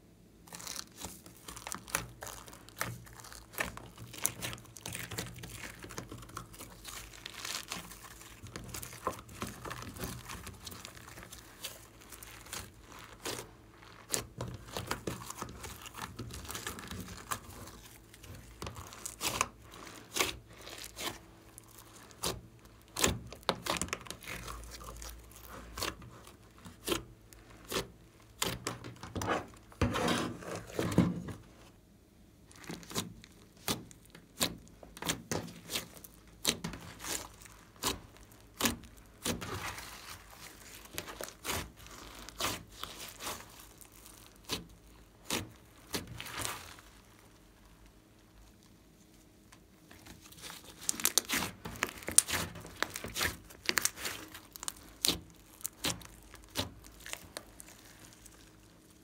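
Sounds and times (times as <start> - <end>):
hands squishing sticky slime: 0.4 - 31.5, 32.4 - 59.0.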